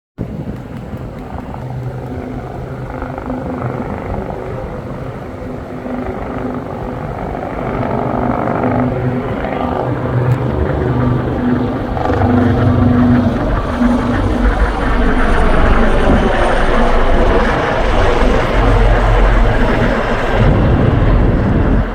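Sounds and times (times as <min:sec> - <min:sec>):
helicopter rotor and engines: 0:00.2 - 0:21.9.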